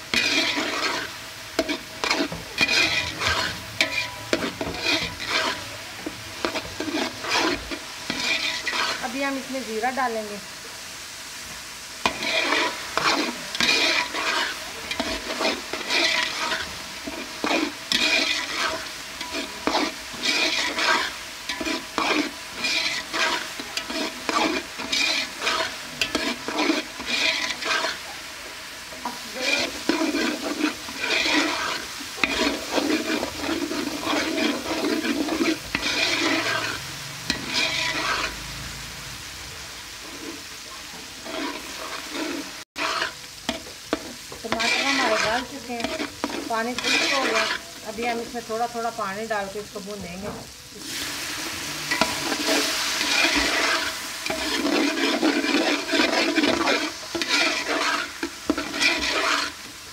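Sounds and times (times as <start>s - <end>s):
spatula scraping a steel pot: 0.0s - 10.0s, 12.0s - 28.2s, 28.9s - 38.6s, 40.0s - 48.9s, 51.9s - 59.9s
oil sizzling: 0.0s - 59.9s.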